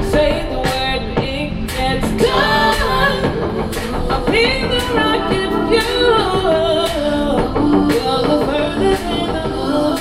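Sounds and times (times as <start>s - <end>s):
backing music: 0.0s - 10.0s
woman singing into microphone: 0.0s - 10.0s.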